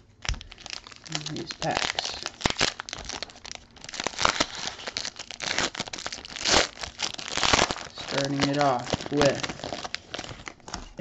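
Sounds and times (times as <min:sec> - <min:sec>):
plastic wrapper crinkling: 0:00.2 - 0:11.0.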